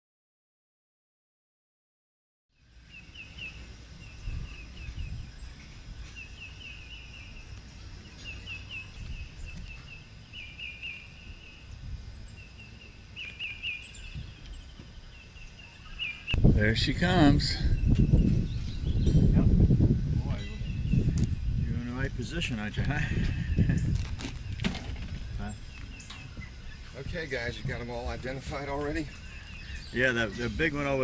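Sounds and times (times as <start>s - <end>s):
birds chirping: 2.5s - 31.0s
steady low rumble: 2.8s - 31.0s.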